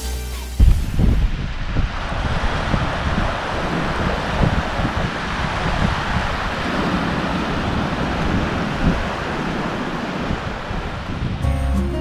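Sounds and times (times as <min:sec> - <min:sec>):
waves breaking on sandy shore: 0:00.6 - 0:11.4
wind buffeting microphone: 0:00.6 - 0:11.4.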